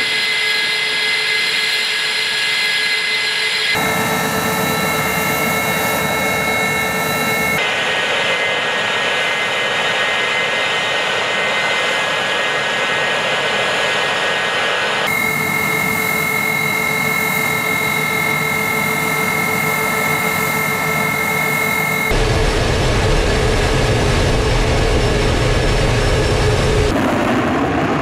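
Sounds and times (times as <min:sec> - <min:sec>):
jet engines roaring with whine: 0:00.0 - 0:28.0.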